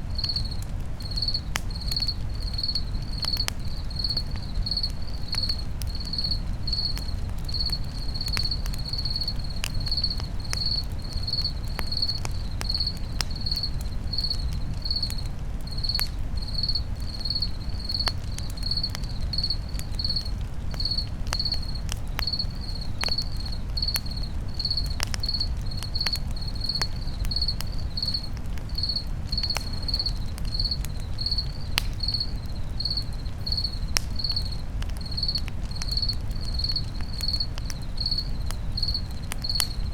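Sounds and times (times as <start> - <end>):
campfire crackling and popping: 0.0 - 39.9
crickets chirping: 0.1 - 39.9.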